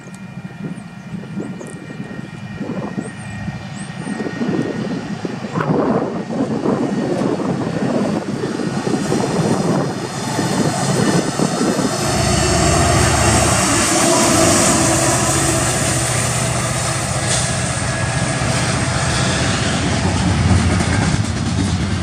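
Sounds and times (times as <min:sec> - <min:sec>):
diesel locomotive passing: 0:00.0 - 0:22.0.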